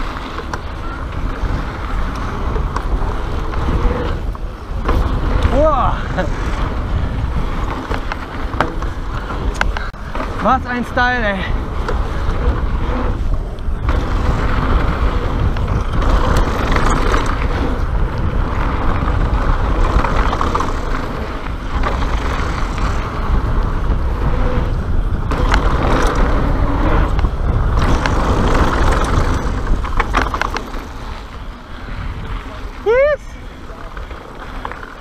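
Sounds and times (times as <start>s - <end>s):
bike rattling and clicking: 0.0s - 35.0s
tyres rushing on loose ground: 0.0s - 35.0s
wind buffeting microphone: 0.0s - 35.0s.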